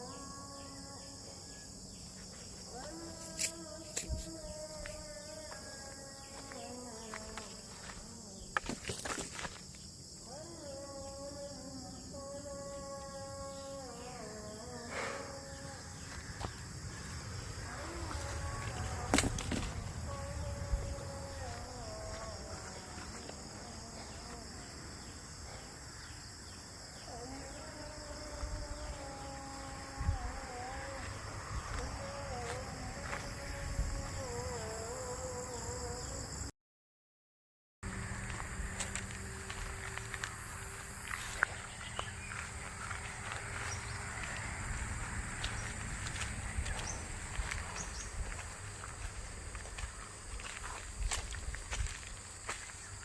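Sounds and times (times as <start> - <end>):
insects chirring: 0.0 - 36.5, 37.8 - 53.0.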